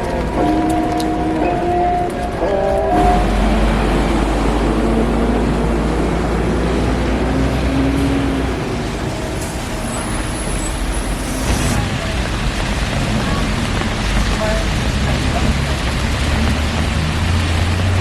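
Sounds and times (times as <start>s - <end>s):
buses and cars passing: 0.0s - 18.0s
deep engine rumble: 0.0s - 18.0s.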